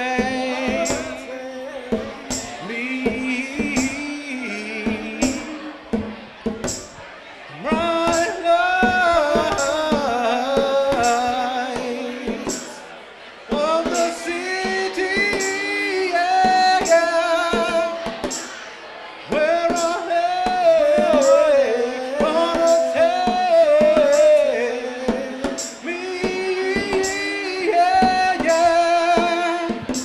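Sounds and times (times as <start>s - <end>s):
person singing: 0.0s - 6.8s, 7.5s - 12.8s, 13.5s - 18.6s, 19.3s - 30.0s
bongos: 0.0s - 30.0s.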